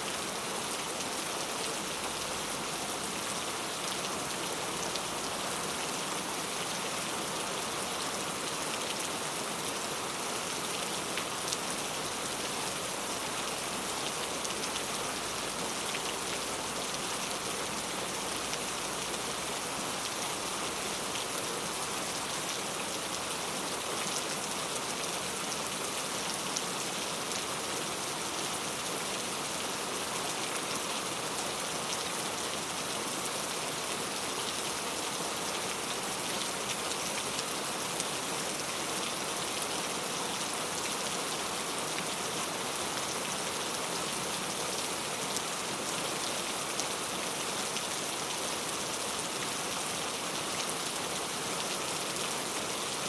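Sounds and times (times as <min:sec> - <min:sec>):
heavy rain on street surfaces: 0:00.0 - 0:53.0.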